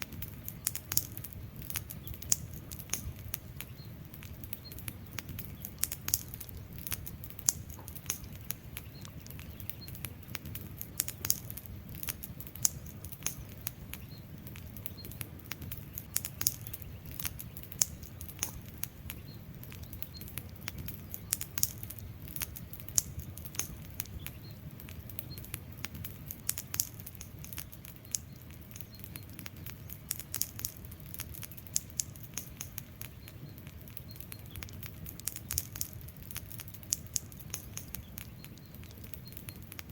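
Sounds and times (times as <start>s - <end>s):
logs crackling and popping: 0.0s - 39.9s
wood fire rumbling: 0.0s - 39.9s.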